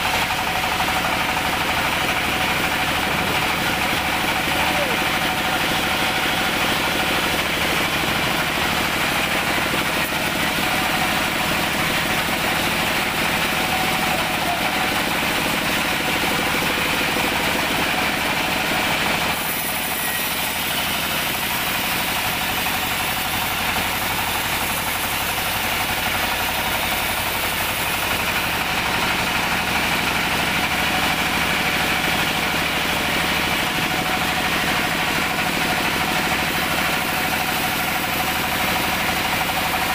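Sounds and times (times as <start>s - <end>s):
band sawmill droning: 0.0s - 39.9s.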